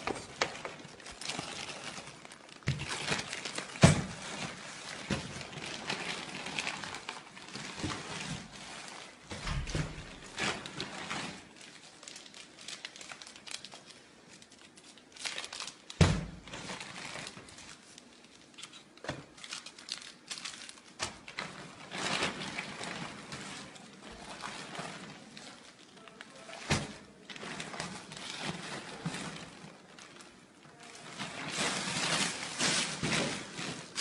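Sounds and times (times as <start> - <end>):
plastic bags crinkling: 0.0 - 34.0.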